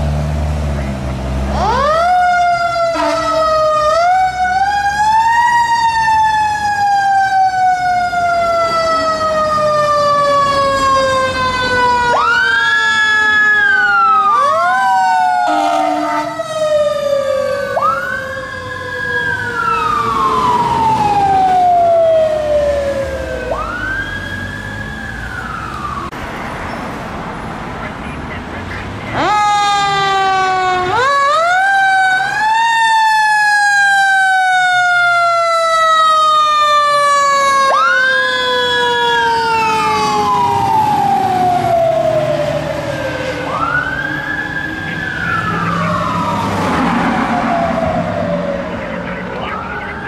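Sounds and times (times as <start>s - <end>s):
truck engine: 0.0s - 50.0s
fire engine siren wailing: 1.1s - 26.3s, 27.1s - 50.0s.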